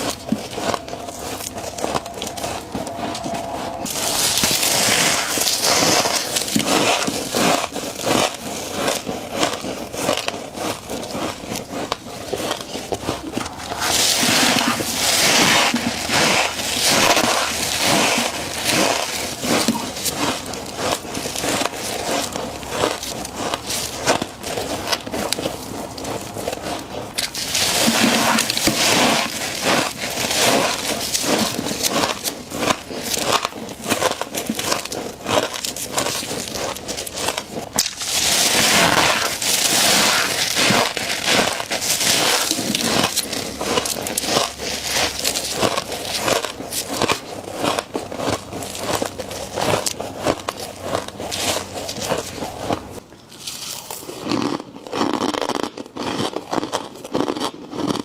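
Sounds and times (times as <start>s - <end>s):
frost crunching being chewed: 0.0s - 58.0s.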